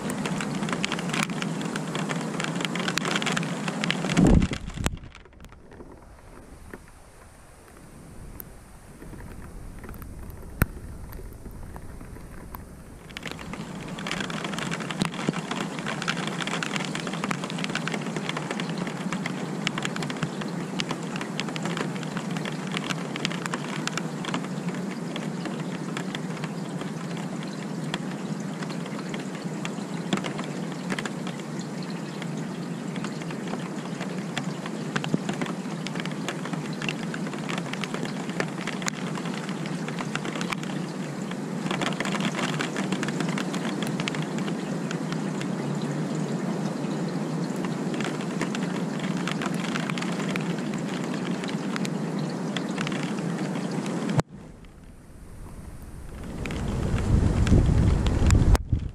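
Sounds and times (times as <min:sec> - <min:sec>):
raindrops ticking on surfaces: 0:00.0 - 0:58.9
steady rain falling: 0:00.0 - 0:58.9.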